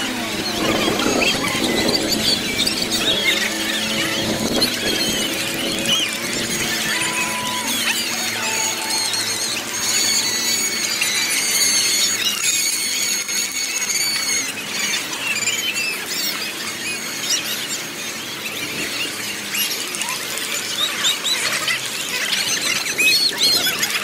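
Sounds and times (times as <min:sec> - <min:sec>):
sped-up crowd voices squeaking: 0:00.0 - 0:24.0.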